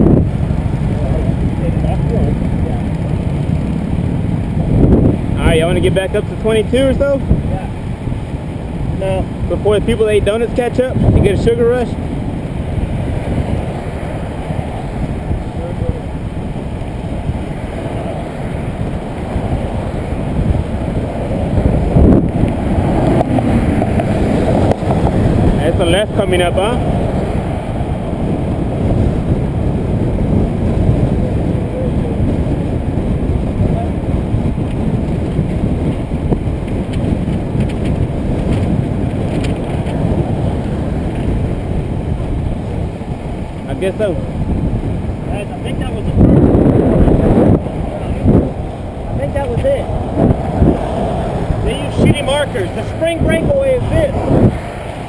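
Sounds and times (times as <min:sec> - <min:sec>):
tyre noise on pavement: 0:00.0 - 0:55.0
wind rushing over microphone: 0:00.0 - 0:55.0.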